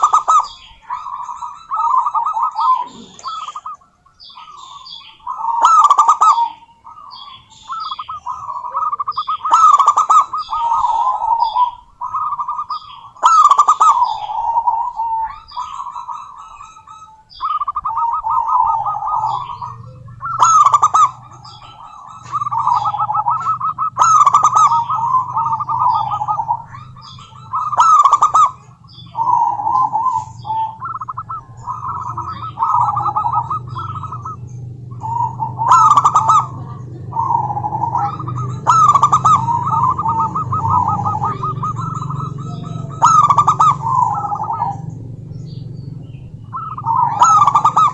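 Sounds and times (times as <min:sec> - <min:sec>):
dove trilling coos: 0:00.0 - 0:47.9
faint low hum: 0:00.0 - 0:47.9.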